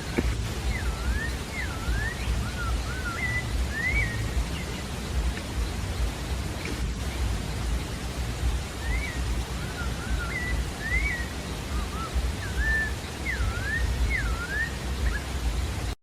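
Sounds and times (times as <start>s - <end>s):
low rumble and hiss: 0.0s - 16.0s
thrush singing whistled notes: 0.0s - 16.0s.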